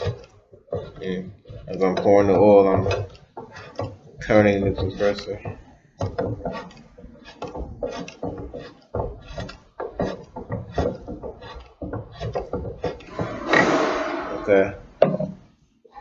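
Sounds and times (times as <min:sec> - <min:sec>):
compressor clicking and rubbing: 0:00.0 - 0:13.8.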